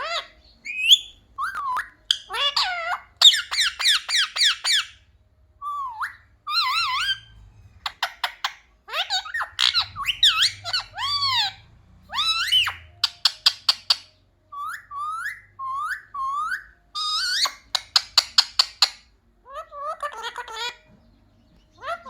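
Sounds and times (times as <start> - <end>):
parrot chirps and whistles: 0.0 - 5.0, 5.6 - 20.8.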